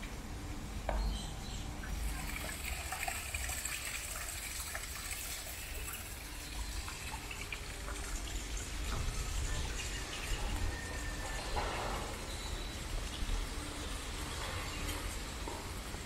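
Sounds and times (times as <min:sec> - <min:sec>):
trickle of running water: 0:01.8 - 0:16.0.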